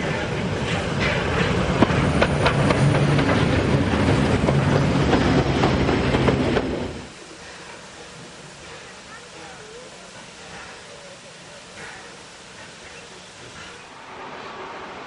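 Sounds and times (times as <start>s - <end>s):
train wheels clicking over rail joints: 0.0s - 13.9s.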